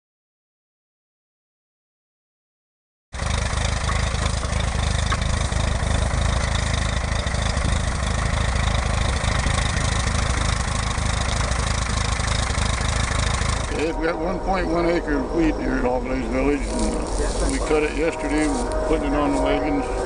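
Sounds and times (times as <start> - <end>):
tractor engine running: 3.2 - 20.0.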